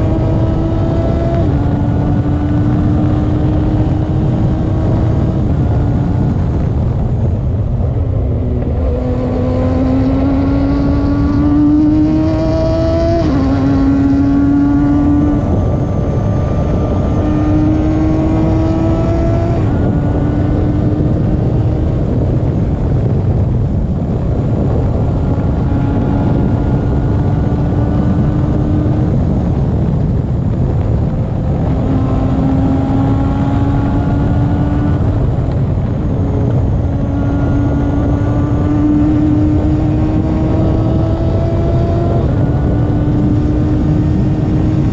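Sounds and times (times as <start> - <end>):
race car engine accelerating: 0.0 - 6.8, 7.8 - 22.6, 24.4 - 30.1, 31.2 - 44.9.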